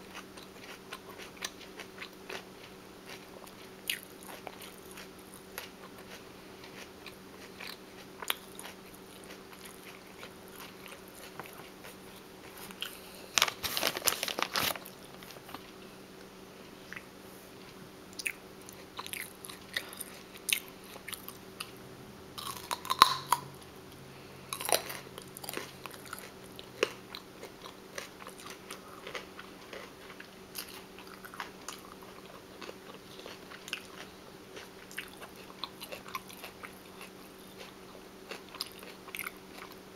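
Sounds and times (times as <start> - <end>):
chewing crunchy food: 0.0 - 15.8, 17.7 - 21.8, 22.4 - 23.7, 24.5 - 39.9.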